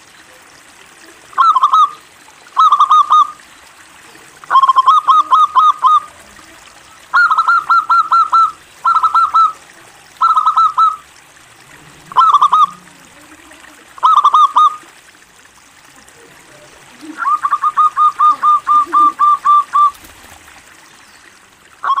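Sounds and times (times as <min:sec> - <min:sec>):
dove cooing: 0:01.2 - 0:15.0, 0:15.8 - 0:20.5.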